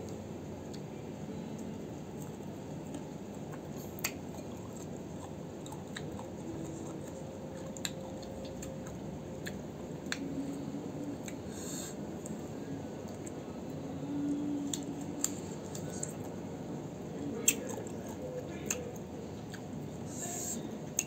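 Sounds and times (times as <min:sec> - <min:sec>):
chewing fruit with crunches: 0:01.6 - 0:20.0.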